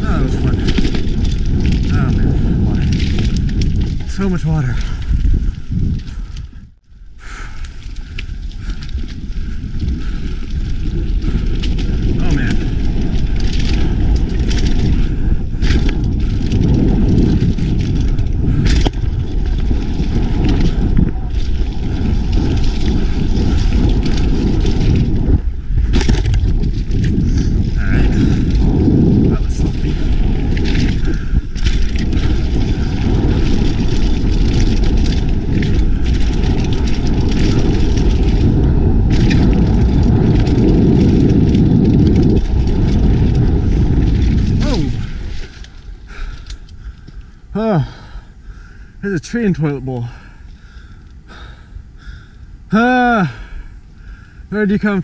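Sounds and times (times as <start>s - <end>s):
bike clattering: 0.0s - 6.6s, 7.3s - 47.4s
bike tyres rumbling on dirt: 0.0s - 55.0s
wind buffeting microphone: 0.0s - 55.0s.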